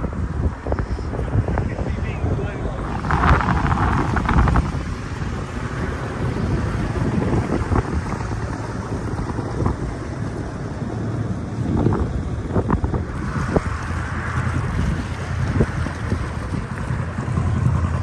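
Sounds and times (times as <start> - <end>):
wind buffeting microphone: 0.0 - 18.0
boat engine motoring past: 0.7 - 18.0.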